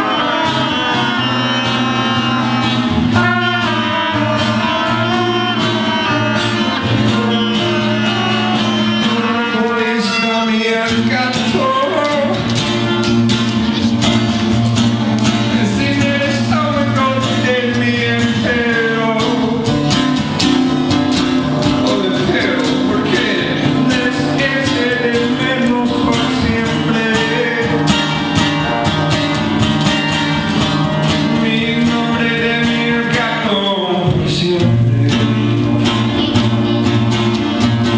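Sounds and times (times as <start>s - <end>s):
band playing a song: 0.0s - 37.9s.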